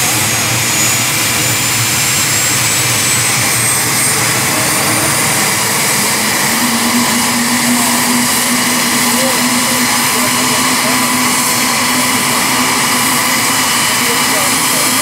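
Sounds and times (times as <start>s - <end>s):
helicopter turbine rush and whine: 0.0s - 15.0s
low steady hum: 2.4s - 15.0s.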